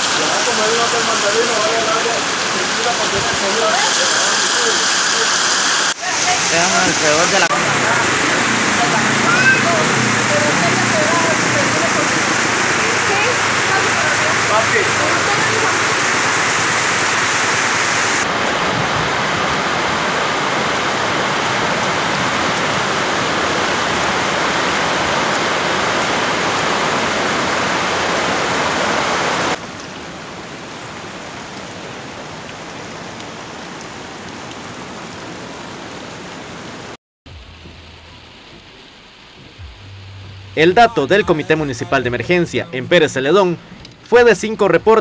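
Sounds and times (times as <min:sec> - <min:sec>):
floodwater rushing: 0:00.0 - 0:41.4
heavy rain falling: 0:00.0 - 0:42.0.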